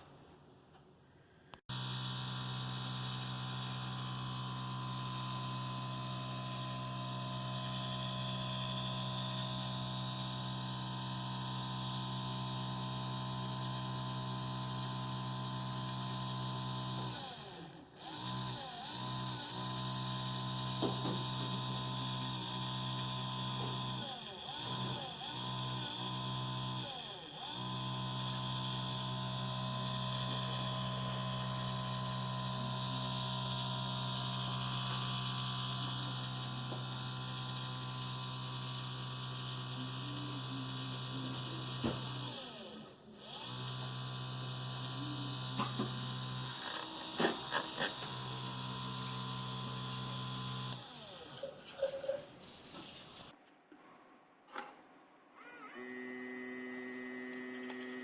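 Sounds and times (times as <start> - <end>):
drill press motor humming: 1.7 - 51.4, 55.4 - 58.0.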